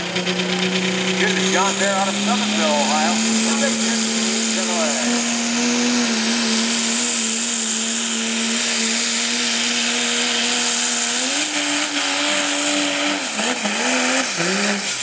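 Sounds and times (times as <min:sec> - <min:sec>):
diesel truck engine revving high: 0:00.0 - 0:15.0.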